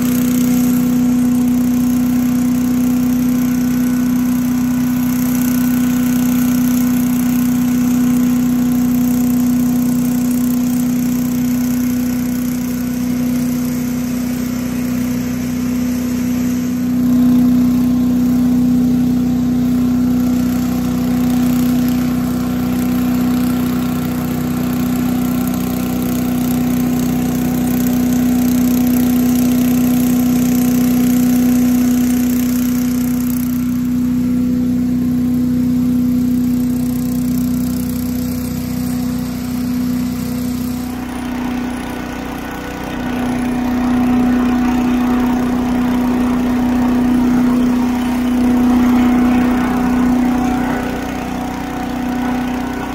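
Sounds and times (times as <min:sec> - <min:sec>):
leaf blower running: 0:00.0 - 0:52.9
tractor engine drone: 0:00.0 - 0:52.9.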